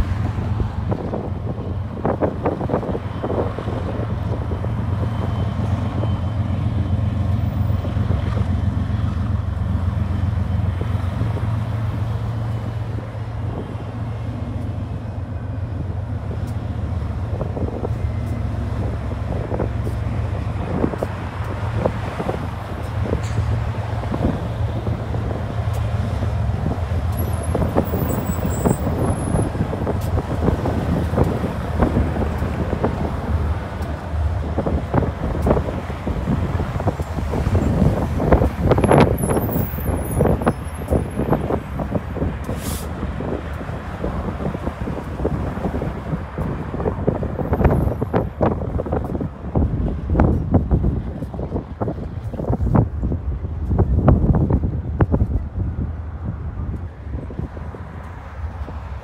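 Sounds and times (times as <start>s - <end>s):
freight locomotives droning: 0.0s - 59.0s
train clicks and rattles: 0.4s - 55.6s.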